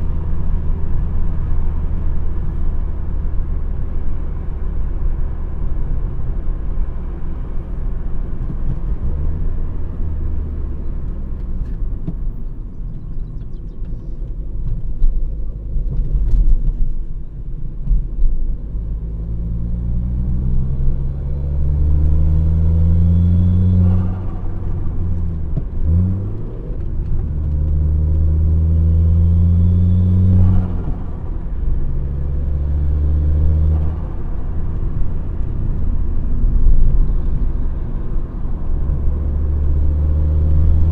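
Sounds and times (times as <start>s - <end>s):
car exhaust rumbling and revving: 0.0s - 40.9s.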